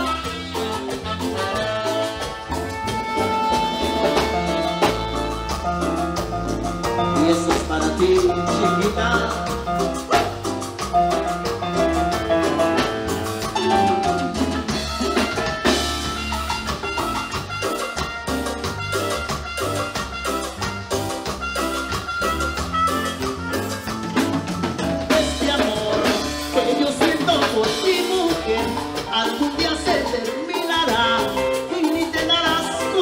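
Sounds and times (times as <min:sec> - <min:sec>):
pulsing bass: 0:00.0 - 0:28.7
latin dance band instrumental: 0:00.0 - 0:33.0
steady percussion: 0:00.0 - 0:33.0.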